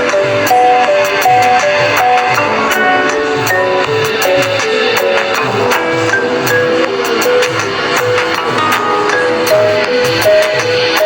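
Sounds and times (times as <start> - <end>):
steady percussion beat: 0.0 - 11.0
synthesized ringtone tune: 0.0 - 11.0.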